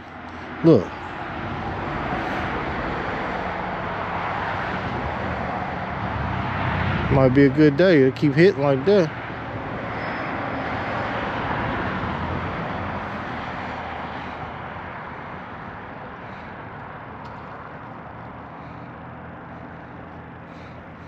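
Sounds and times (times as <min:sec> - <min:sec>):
vehicle passing by: 0:00.0 - 0:21.0.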